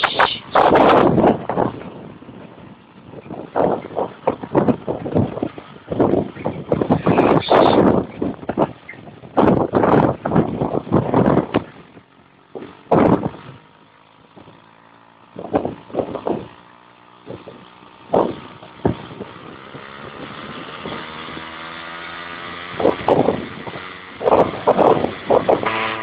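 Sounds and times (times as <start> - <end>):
wind gusting against microphone: 0.0 - 13.8, 14.4 - 26.0
motor-like hum: 0.0 - 26.0.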